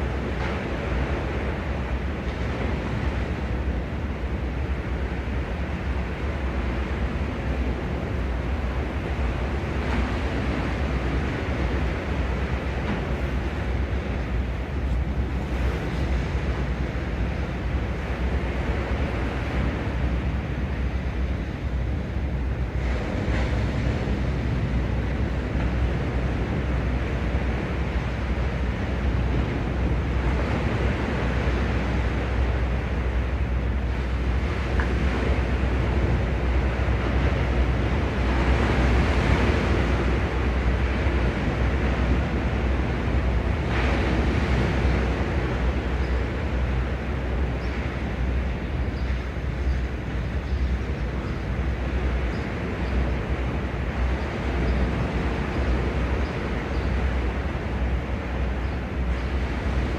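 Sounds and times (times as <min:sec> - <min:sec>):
sea waves washing on shore: 0:00.0 - 0:59.9
wind rumbling on microphone: 0:00.0 - 0:59.9.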